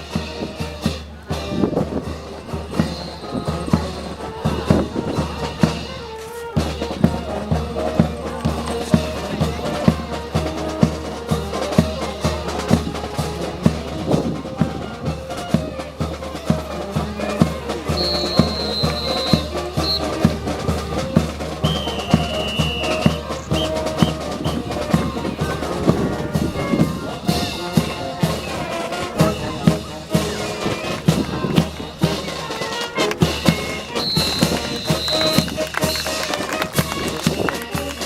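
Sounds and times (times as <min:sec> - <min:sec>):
bass drum beat: 0:00.0 - 0:38.0
brass band playing a march: 0:00.0 - 0:38.0.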